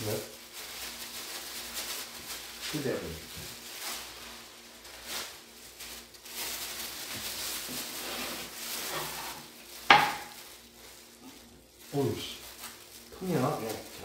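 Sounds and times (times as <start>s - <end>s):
plastic gloves and bag crinkling: 0.0s - 14.0s.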